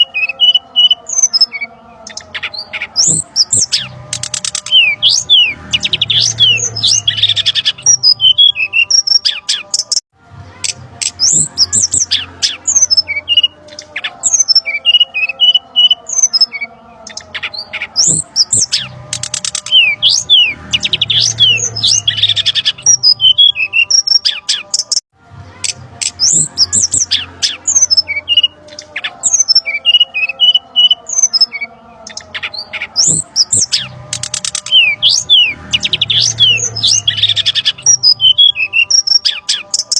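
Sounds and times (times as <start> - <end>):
bird chirps and trills: 0.0 - 25.0, 25.6 - 39.9.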